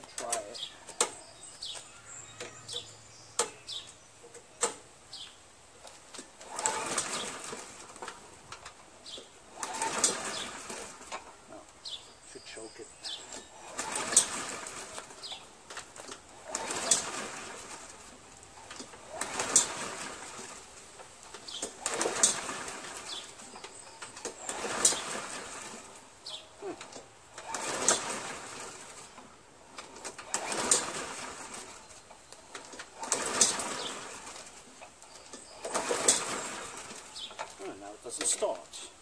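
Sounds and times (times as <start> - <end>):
mower engine cranking: 0.0 - 39.0
starter rope whirring: 5.8 - 12.0, 13.0 - 38.8.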